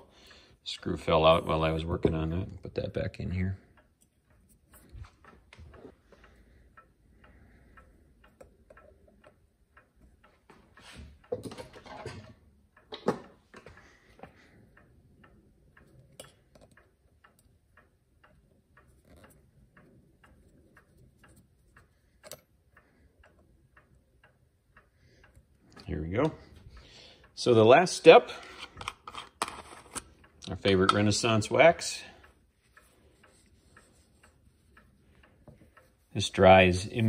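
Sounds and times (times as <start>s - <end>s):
mechanical clock ticking: 0.0s - 37.0s.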